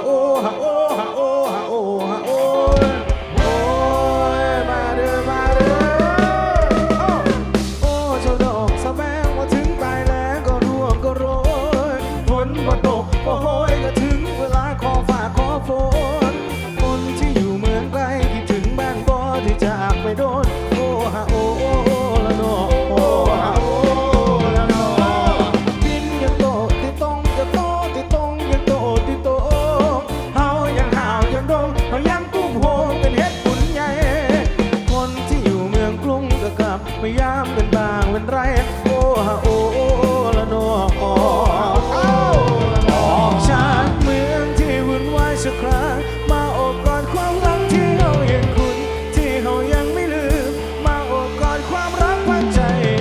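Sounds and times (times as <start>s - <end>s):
wavering lead melody: 0.0s - 53.0s
drum kit and bass beat: 2.7s - 53.0s.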